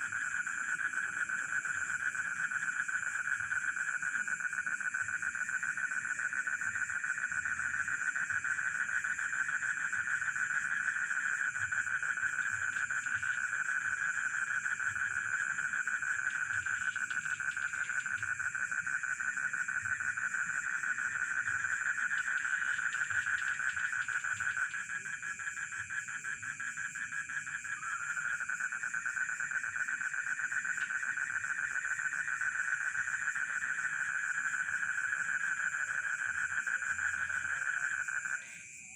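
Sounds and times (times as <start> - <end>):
frogs trilling: 0.0 - 38.9
insects chirring: 0.0 - 38.9.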